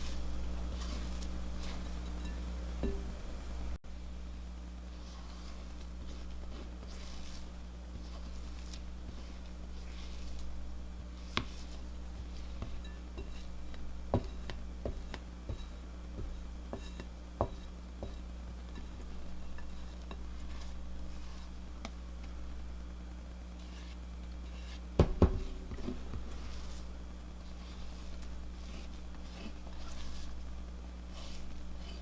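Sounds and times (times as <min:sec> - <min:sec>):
spatula scraping a bowl: 0:00.0 - 0:03.0, 0:04.9 - 0:22.5, 0:23.6 - 0:32.0.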